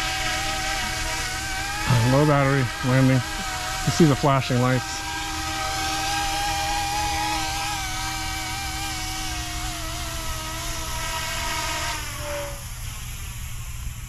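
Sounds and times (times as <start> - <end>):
electric helicopter motor whining: 0.0 - 13.9.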